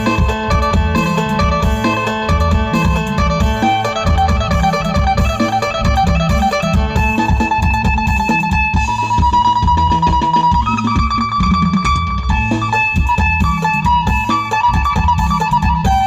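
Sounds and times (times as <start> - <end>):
plucked lute melody: 0.0 - 16.0
steady low beat: 0.0 - 16.0.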